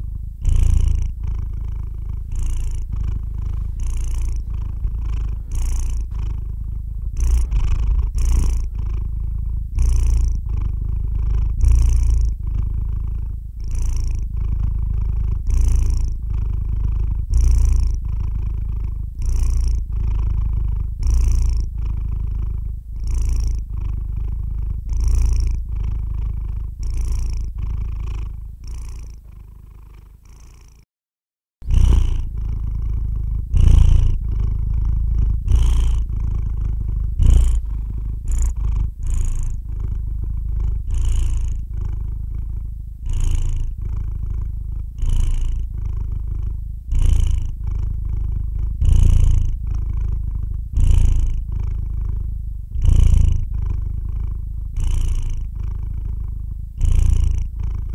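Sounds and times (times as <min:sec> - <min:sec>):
cat purring: 0:00.0 - 0:30.9, 0:31.6 - 0:57.9.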